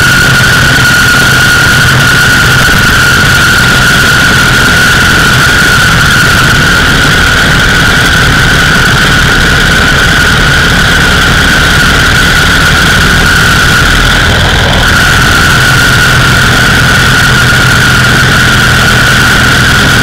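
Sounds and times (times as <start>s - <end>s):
high-pitched whine: 0.0s - 20.0s
motorcycle engine rumble: 0.0s - 20.0s
wind rush on microphone: 0.0s - 20.0s.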